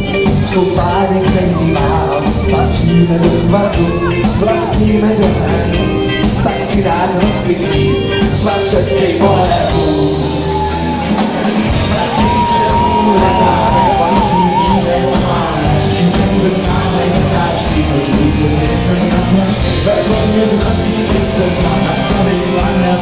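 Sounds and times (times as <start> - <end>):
man singing: 0.0 - 11.0, 11.8 - 23.0
live rock band playing: 0.0 - 23.0.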